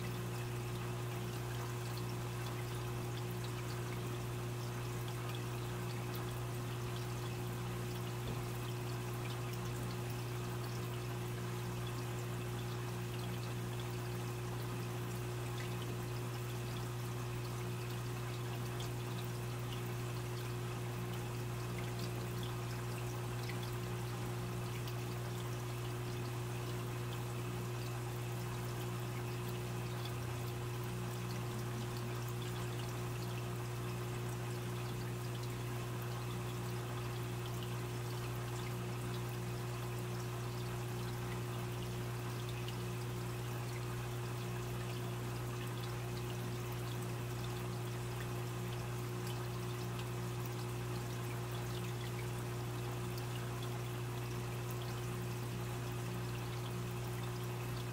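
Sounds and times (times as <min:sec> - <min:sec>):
filter water trickling and splashing: 0:00.0 - 0:57.9
water drips and ticks: 0:00.0 - 0:57.9.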